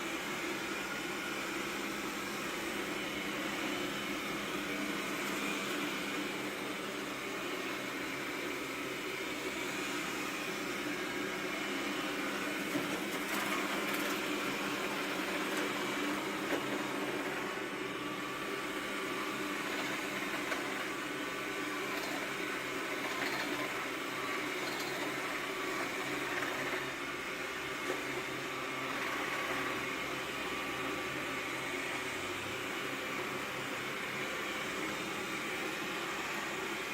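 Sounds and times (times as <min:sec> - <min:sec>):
robot vacuum cleaner humming: 0:00.0 - 0:36.9.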